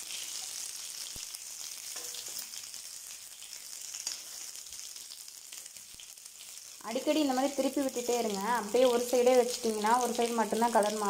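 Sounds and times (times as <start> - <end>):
eggplants sizzling in oil: 0.0 - 11.0.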